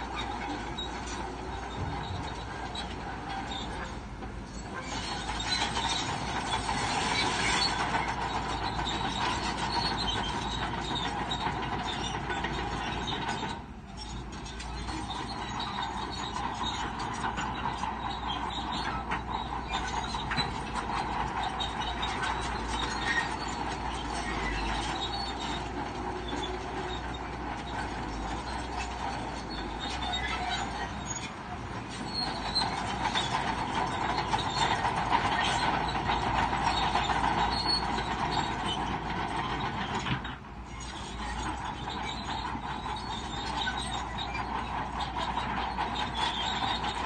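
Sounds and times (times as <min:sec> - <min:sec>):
bulldozer engine running: 0:00.0 - 0:47.0
steel tracks clanking and squealing: 0:00.0 - 0:47.0.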